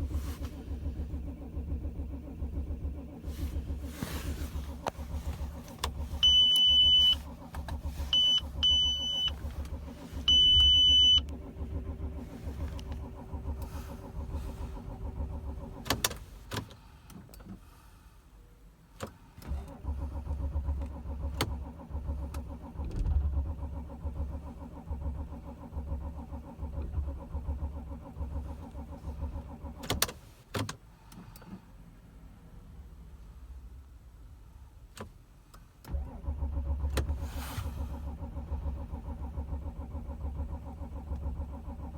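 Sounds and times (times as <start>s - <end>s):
diesel engine cranking: 0.0s - 17.7s, 19.4s - 31.6s, 35.8s - 41.9s.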